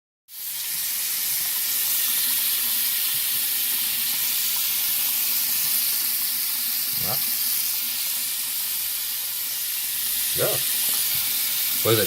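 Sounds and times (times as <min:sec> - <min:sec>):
water running from faucet: 0:00.3 - 0:12.0.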